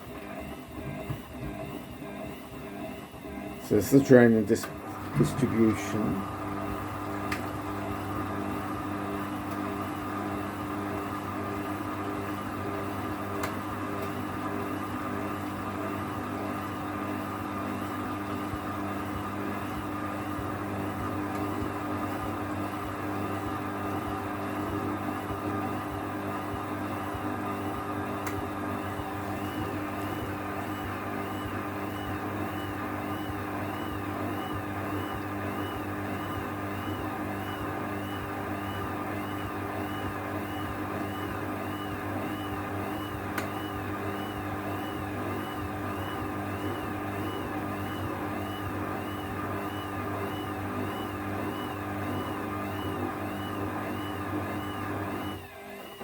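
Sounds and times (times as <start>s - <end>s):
washing machine motor humming: 0.0s - 56.0s.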